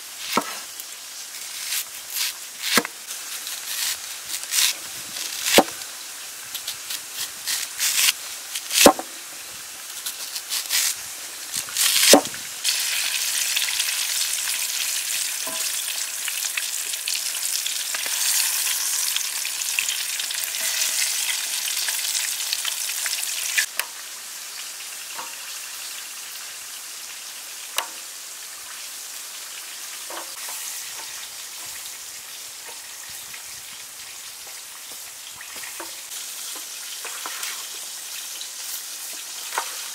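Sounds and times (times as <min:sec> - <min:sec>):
chicken deep-frying sizzle: 0:00.0 - 0:39.9.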